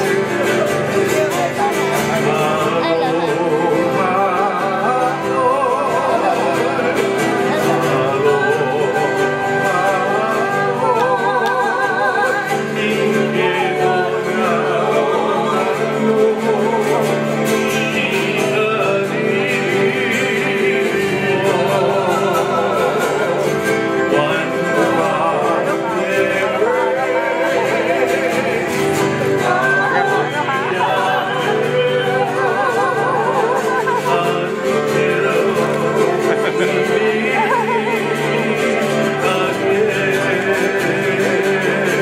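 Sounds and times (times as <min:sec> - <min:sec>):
person singing with vibrato: 0:00.0 - 0:42.0
strummed ukulele and guitar: 0:00.0 - 0:42.0.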